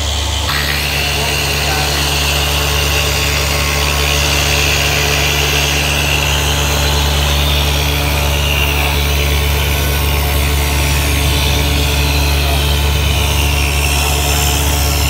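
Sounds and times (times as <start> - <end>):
machine humming and hissing: 0.0 - 15.0.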